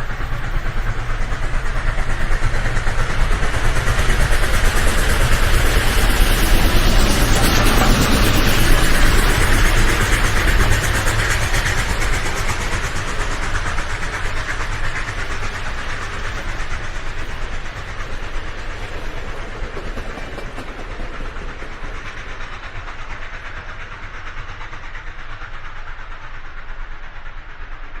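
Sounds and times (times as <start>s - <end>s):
train wheels clattering on rails: 0.0s - 28.0s.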